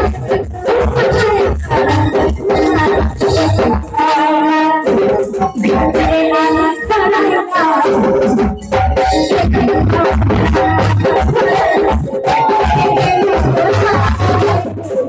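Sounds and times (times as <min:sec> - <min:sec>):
hand drums: 0:00.0 - 0:15.0
woman singing: 0:00.0 - 0:15.0.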